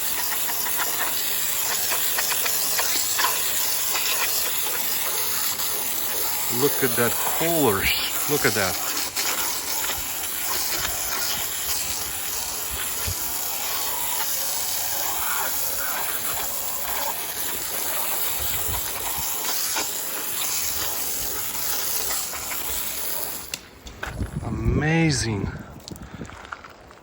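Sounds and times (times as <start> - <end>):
hose spraying water on wood: 0.0 - 24.4.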